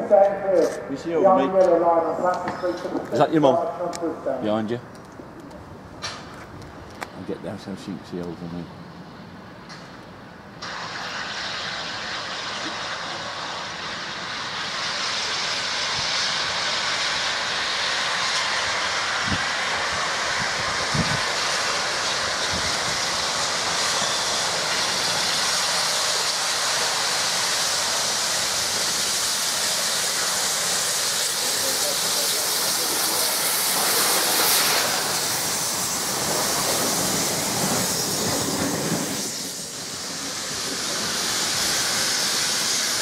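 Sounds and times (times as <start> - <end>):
steam locomotive exhaust rushing: 5.7 - 43.0.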